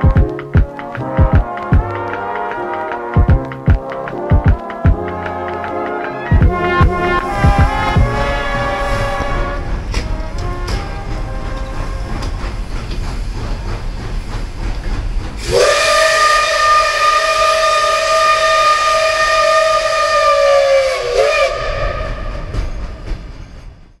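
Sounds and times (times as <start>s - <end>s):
steam locomotive whistle: 0.0s - 12.4s, 15.4s - 22.6s
low train rumble: 0.0s - 24.0s.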